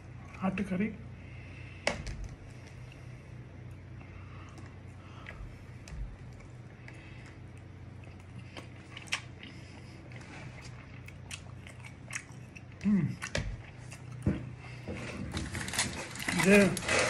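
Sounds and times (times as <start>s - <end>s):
person chewing food: 2.5s - 17.0s.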